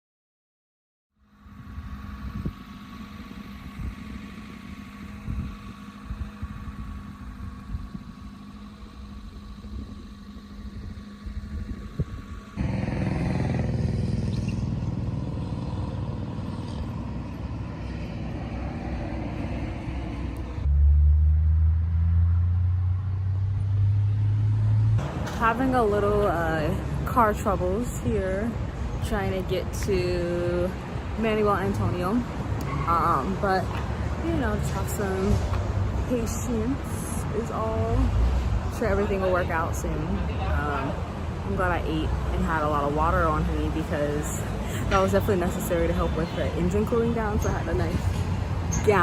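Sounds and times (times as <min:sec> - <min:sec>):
low engine drone: 0:01.1 - 0:49.0
vehicle engine rumble: 0:01.2 - 0:49.0.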